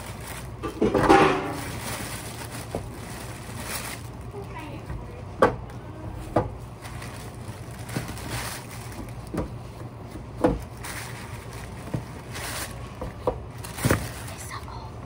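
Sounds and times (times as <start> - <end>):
plastic bags rustling: 0.0 - 5.4, 6.1 - 15.0
steady low hum: 0.0 - 15.0.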